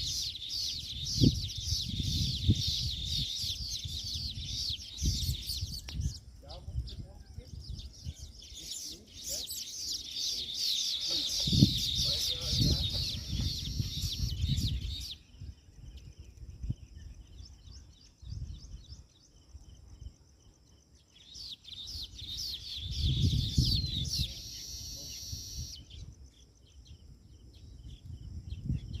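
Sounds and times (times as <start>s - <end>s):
birds chirping and chattering: 0.0s - 29.0s.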